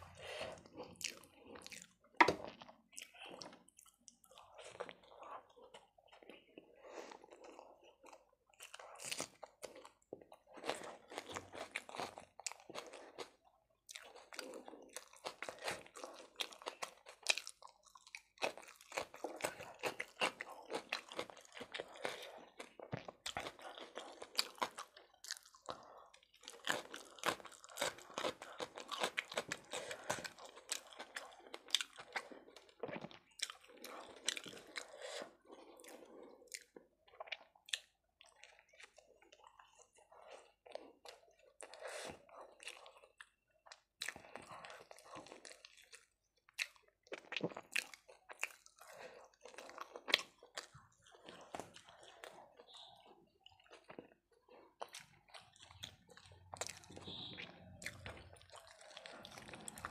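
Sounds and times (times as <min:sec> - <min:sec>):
chewing and crunching bread: 0:00.0 - 0:59.9.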